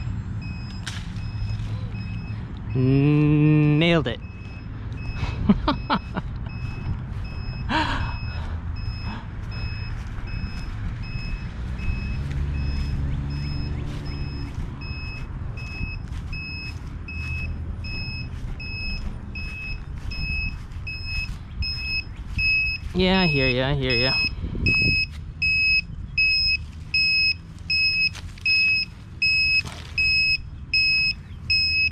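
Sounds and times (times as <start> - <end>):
electronic alarm beeping: 0.0 - 31.9
low rumble of wind: 0.0 - 31.9.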